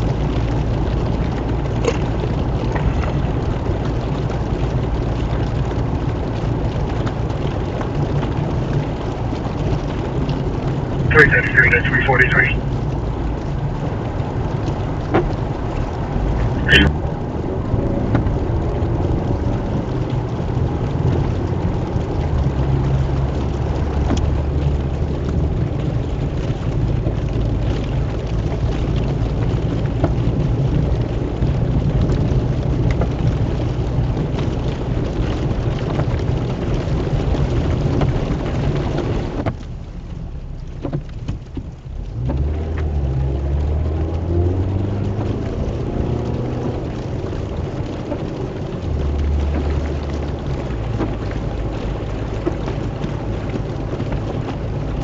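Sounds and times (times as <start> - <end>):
heavy rain on a vehicle: 0.0 - 55.0.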